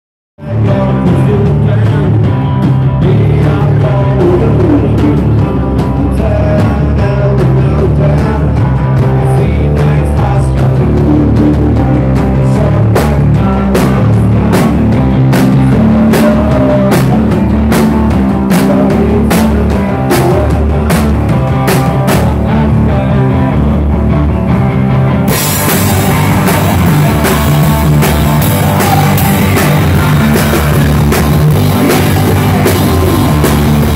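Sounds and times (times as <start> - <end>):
live rock band: 0.4 - 33.9.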